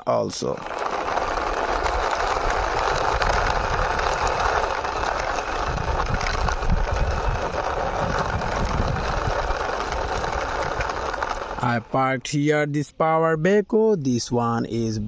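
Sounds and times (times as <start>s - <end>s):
toy wheels rolling with rattles: 0.1s - 12.4s.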